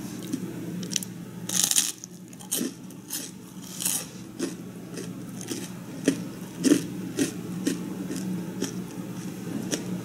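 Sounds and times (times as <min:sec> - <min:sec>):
crunching fried bread: 0:01.5 - 0:09.9.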